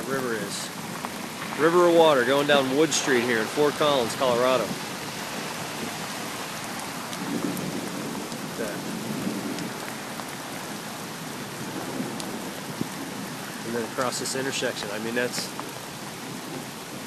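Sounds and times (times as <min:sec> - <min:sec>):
heavy rain on wet street: 0:00.0 - 0:17.0.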